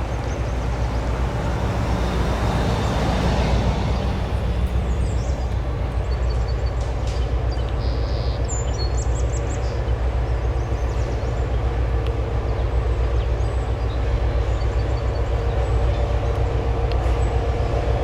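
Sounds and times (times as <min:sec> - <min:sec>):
diesel locomotive rumbling: 0:00.0 - 0:18.0.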